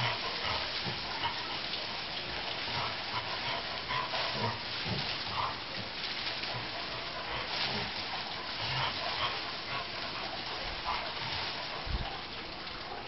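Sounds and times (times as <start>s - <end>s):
dog sniffing in leaves: 0.0s - 13.0s
steady hiss: 0.0s - 13.0s.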